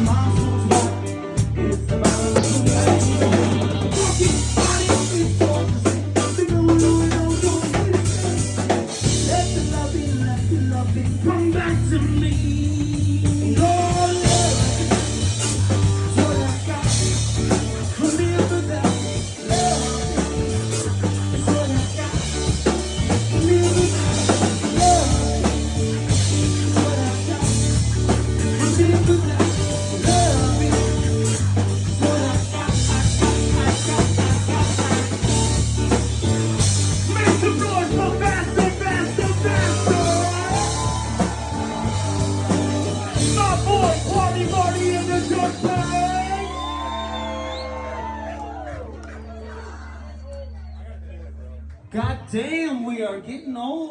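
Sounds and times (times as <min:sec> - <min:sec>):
person singing: 0:00.0 - 0:47.8
drum kit: 0:00.0 - 0:48.7
electric guitar: 0:00.0 - 0:49.3
bass guitar: 0:00.0 - 0:52.6.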